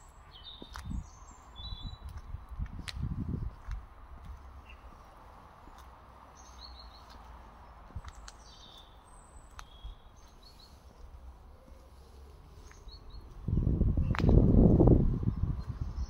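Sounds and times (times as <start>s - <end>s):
low steady street rumble: 0.0s - 16.0s
small birds chirping: 0.0s - 16.0s.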